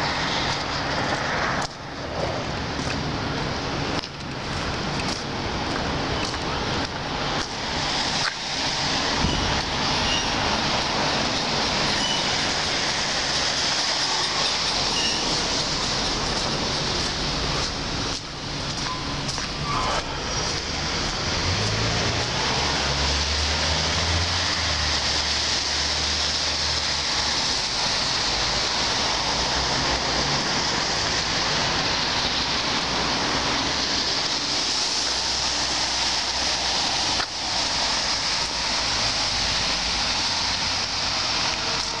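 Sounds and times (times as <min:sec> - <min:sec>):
low traffic rumble: 0:00.0 - 0:42.0
traffic on wet road hiss: 0:00.0 - 0:42.0.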